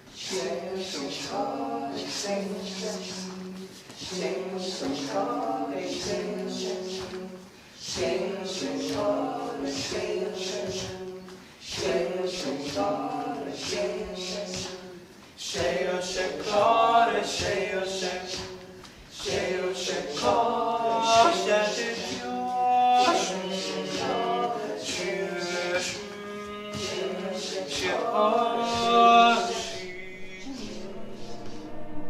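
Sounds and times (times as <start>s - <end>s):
group singing unaccompanied: 0.0s - 32.0s.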